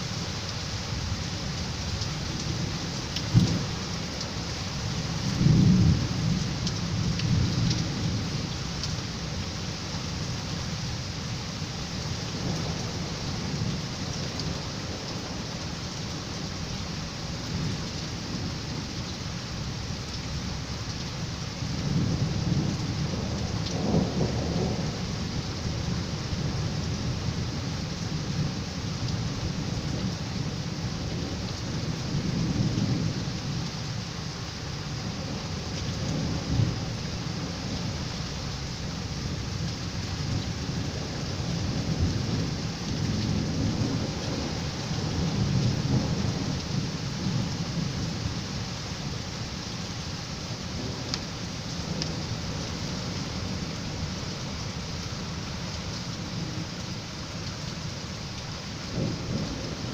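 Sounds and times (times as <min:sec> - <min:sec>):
heavy rain: 0:00.0 - 0:59.9
thunder rumbles: 0:02.2 - 0:09.5, 0:12.2 - 0:20.6, 0:21.6 - 0:34.0, 0:34.8 - 0:49.3, 0:50.4 - 0:59.9.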